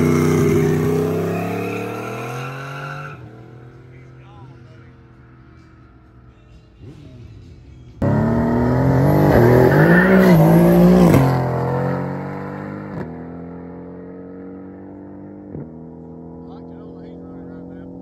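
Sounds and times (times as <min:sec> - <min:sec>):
race car engine accelerating: 0:00.0 - 0:06.0, 0:06.6 - 0:18.0.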